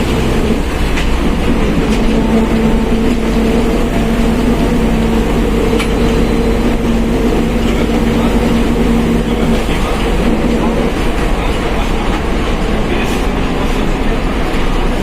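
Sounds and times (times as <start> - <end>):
bus driving: 0.0 - 15.0
differential whine: 0.0 - 15.0.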